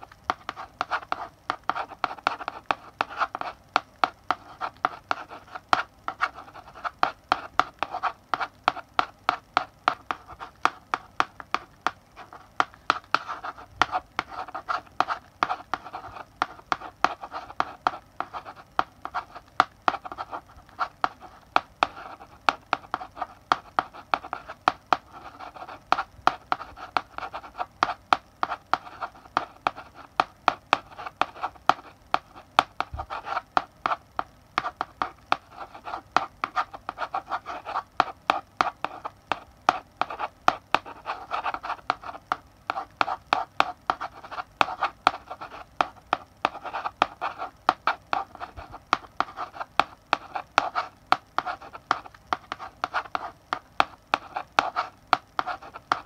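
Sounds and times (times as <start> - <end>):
chalk scratching: 0.0 - 56.0
chalk tapping on a blackboard: 0.0 - 56.0.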